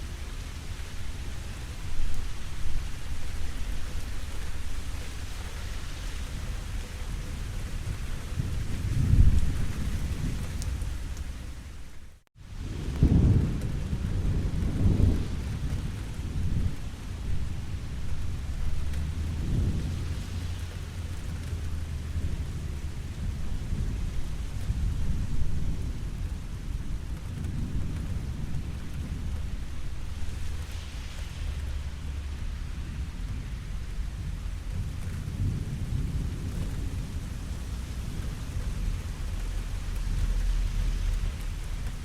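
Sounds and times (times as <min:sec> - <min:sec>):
steady rain: 0:00.0 - 0:42.0
rolling thunder: 0:07.3 - 0:11.6, 0:12.4 - 0:42.0.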